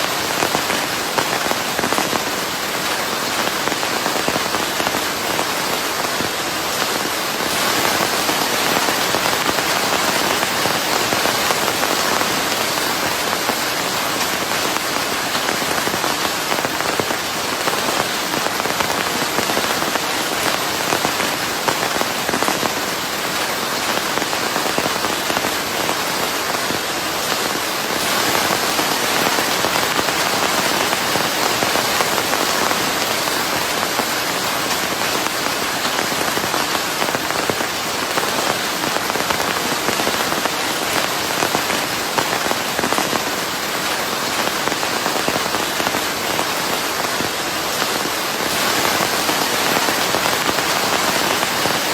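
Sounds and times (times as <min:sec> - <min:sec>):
dense rain falling: 0:00.0 - 0:51.9.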